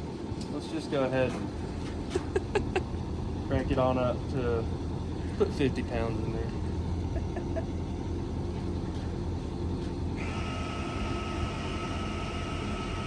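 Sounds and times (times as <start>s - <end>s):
air compressor whine: 0.0s - 13.0s
diesel engine rumbling: 0.0s - 13.0s.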